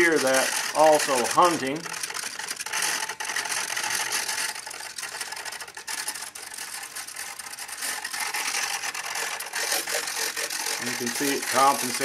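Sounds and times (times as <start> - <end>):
servos whirring and ticking: 0.0 - 12.0.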